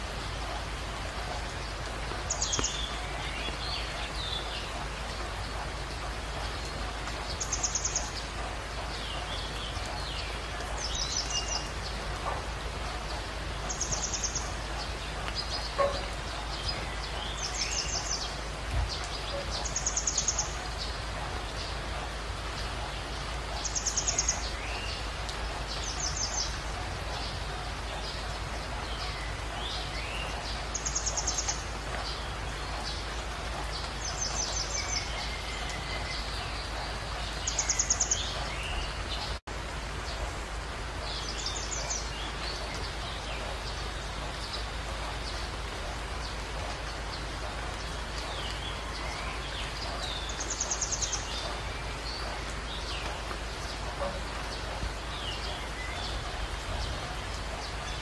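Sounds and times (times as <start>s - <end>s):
steady outdoor noise: 0.0s - 58.0s.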